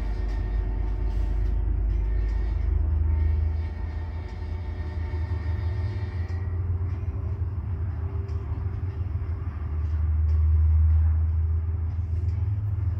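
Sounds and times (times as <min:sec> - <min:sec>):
freight train rumble: 0:00.0 - 0:12.9.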